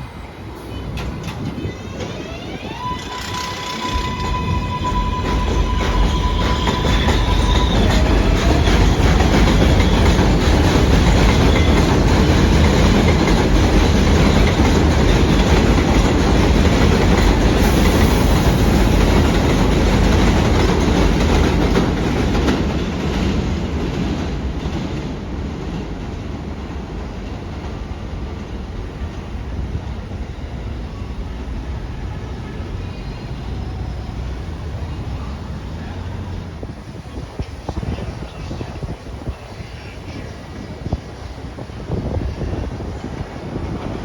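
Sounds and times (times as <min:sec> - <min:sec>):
subway train wheels clattering: 0:00.0 - 0:44.0.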